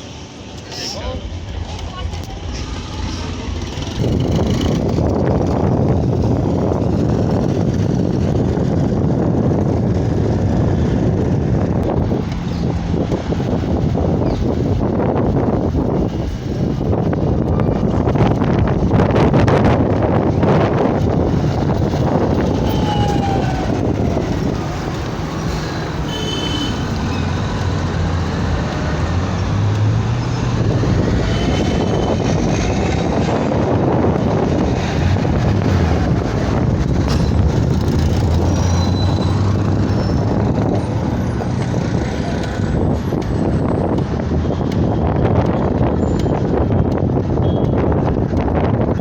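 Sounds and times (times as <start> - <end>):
road traffic: 0.0 - 49.0
wind rumbling on microphone: 0.0 - 49.0.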